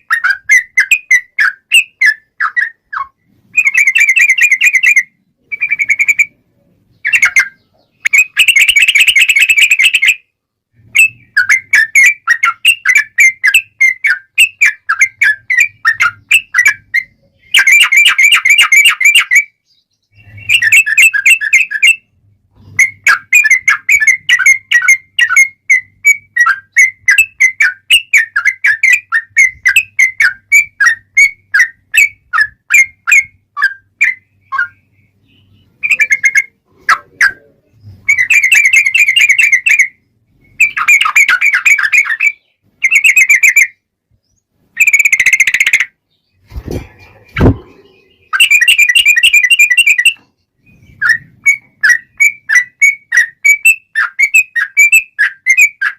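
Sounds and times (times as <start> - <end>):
rapid bird trills: 0.0 - 43.9, 44.8 - 55.9
bulbul singing: 0.0 - 55.9.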